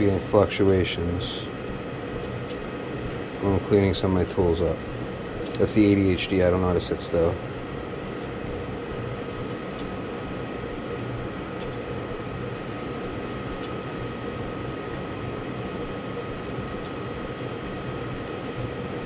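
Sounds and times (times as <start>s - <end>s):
gas furnace running: 0.0s - 19.0s.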